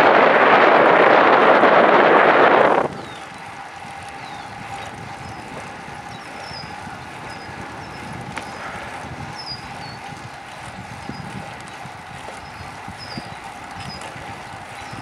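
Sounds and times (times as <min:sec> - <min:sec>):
bicycle tyres rolling on asphalt: 0:00.0 - 0:15.0
wind noise: 0:00.0 - 0:15.0.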